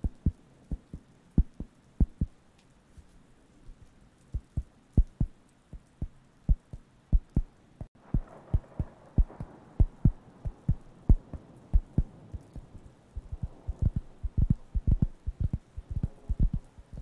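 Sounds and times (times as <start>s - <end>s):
faint rubbing hiss: 0.0s - 17.0s.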